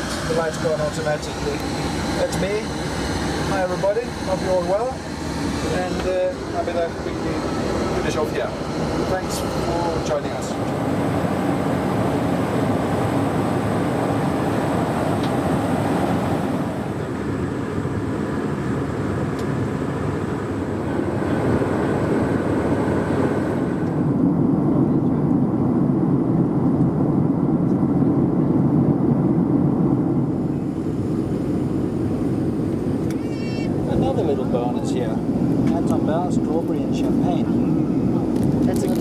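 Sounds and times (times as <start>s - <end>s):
airplane cabin engine and airflow noise: 0.0s - 39.0s.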